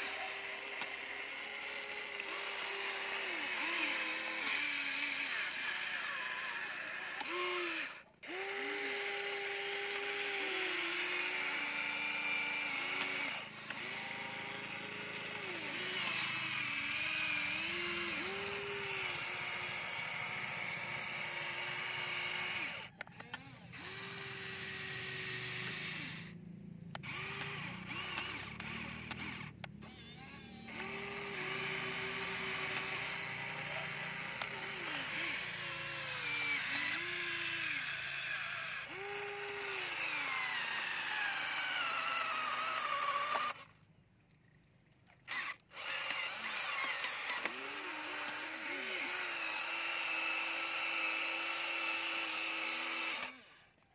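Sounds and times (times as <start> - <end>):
small electric motors whining: 0.0 - 43.8, 45.2 - 53.9.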